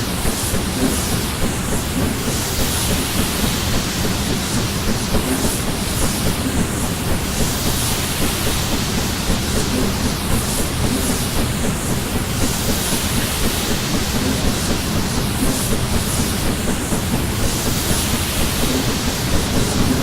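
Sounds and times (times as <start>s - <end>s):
train rumbling and clattering on rails: 0.0s - 20.0s.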